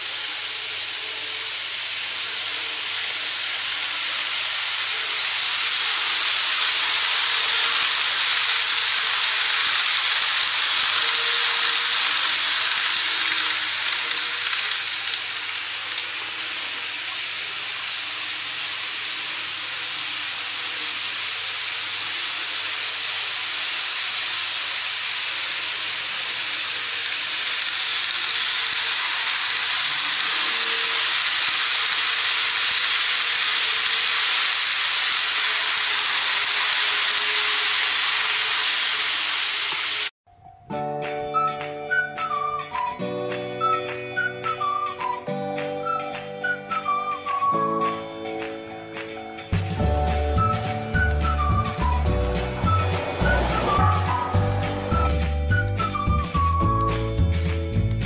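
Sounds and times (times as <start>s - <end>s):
model train wheels and motor hiss: 0.0s - 40.1s, 43.6s - 57.3s.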